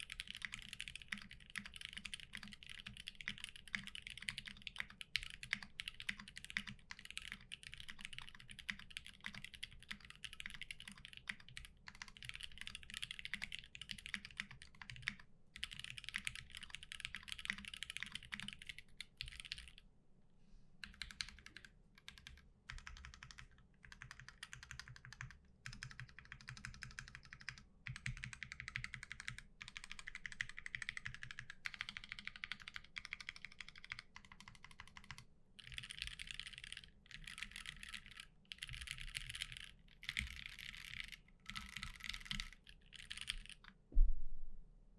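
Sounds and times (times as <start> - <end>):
fast typing on mechanical keyboard: 0.0 - 19.8, 20.8 - 43.7.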